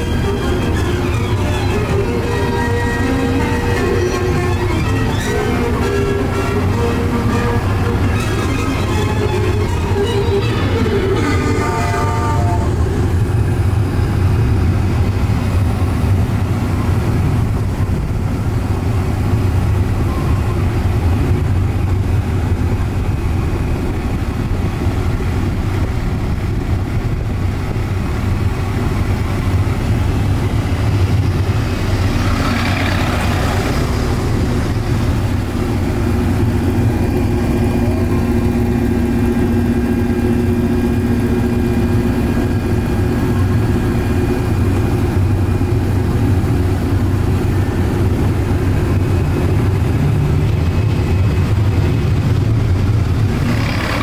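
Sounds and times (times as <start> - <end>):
miniature train rumbling: 0.0 - 54.0.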